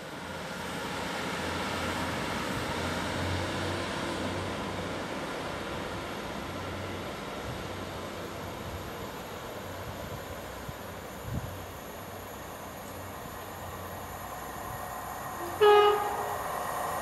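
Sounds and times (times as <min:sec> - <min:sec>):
diesel train engine drone: 0:00.0 - 0:17.0
wheels rumbling on rail: 0:00.0 - 0:17.0.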